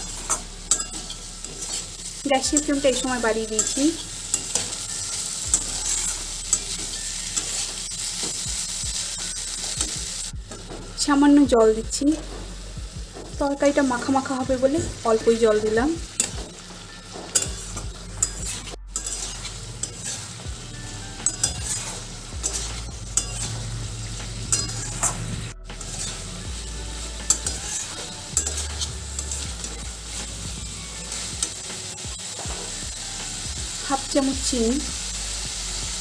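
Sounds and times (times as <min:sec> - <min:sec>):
spatula scraping a pan: 0:00.0 - 0:11.0, 0:13.6 - 0:33.5
curry sizzling in a pan: 0:00.0 - 0:36.0.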